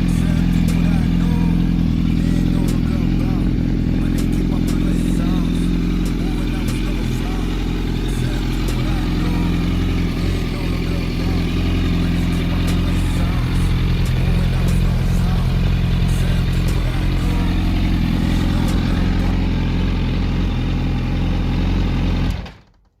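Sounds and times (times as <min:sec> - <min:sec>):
motorcycle engine idling: 0:00.0 - 0:22.6.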